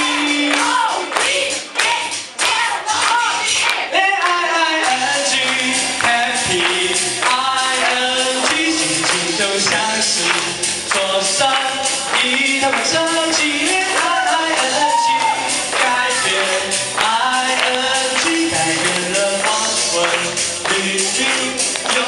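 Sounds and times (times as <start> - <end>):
man singing into a microphone: 0.0 - 1.1, 3.9 - 22.0
backing track with steady beat: 0.0 - 22.0.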